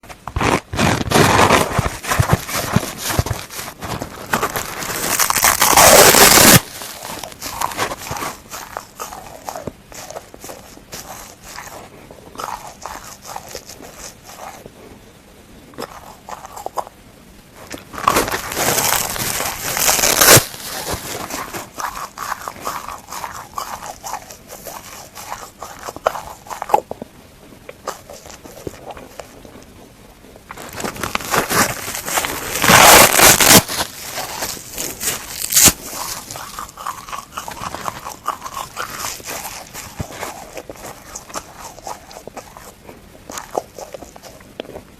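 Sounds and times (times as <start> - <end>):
sponge being chewed crunching: 0.0 - 15.0, 15.7 - 44.9.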